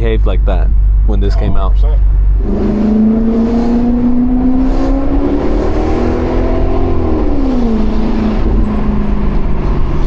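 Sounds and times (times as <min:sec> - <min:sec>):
car engine revving: 0:00.7 - 0:10.0.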